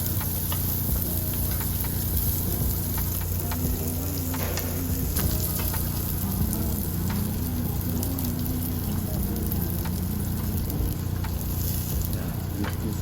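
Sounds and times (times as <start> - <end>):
pork sizzling on a grill: 0.0 - 13.0.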